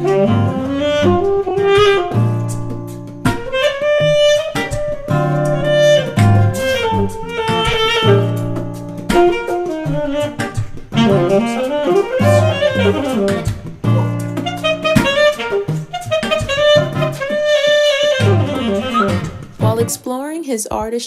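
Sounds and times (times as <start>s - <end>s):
saxophone playing jazzy melody: 0.0s - 20.0s
low accompanying notes: 0.0s - 21.0s.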